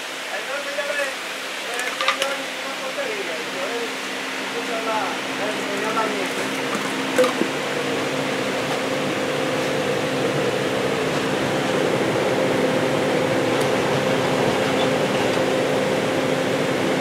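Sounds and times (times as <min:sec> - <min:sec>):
machine hum with rushing air: 0:00.0 - 0:17.0.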